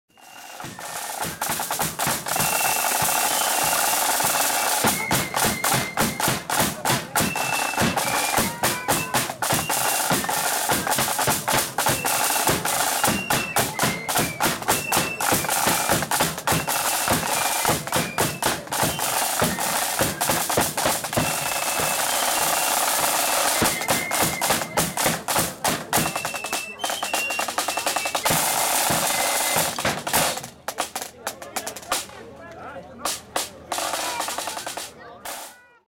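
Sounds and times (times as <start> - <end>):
high melody of held notes: 0.1 - 29.8
side drum beats and rolls: 0.1 - 32.3, 32.9 - 35.8.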